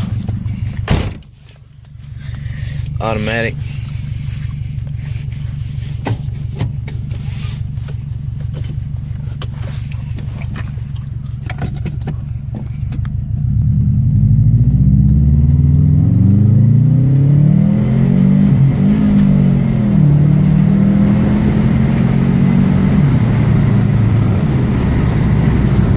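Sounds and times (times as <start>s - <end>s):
car engine accelerating and shifting: 0.0s - 0.9s, 2.1s - 25.9s.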